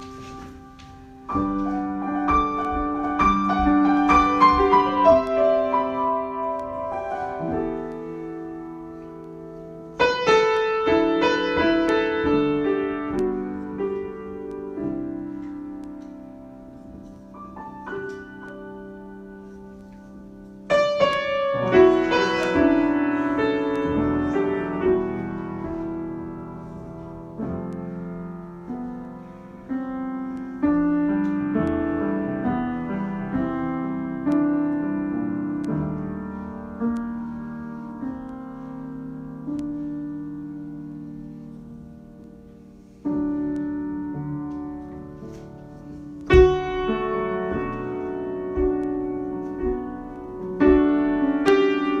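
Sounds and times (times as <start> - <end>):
solo piano: 0.0 - 52.0.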